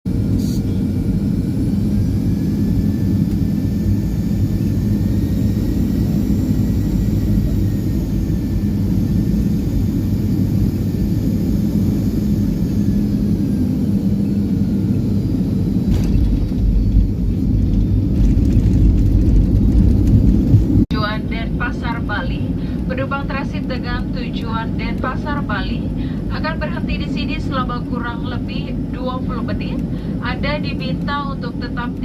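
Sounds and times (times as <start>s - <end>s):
aircraft engine rumble: 0.1s - 32.0s
faint engine whine: 0.1s - 32.0s.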